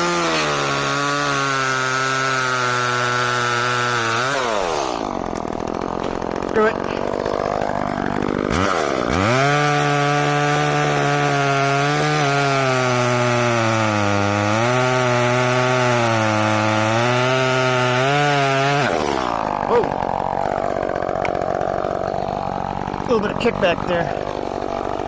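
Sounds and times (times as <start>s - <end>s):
chainsaw cutting tree trunk: 0.0s - 25.0s.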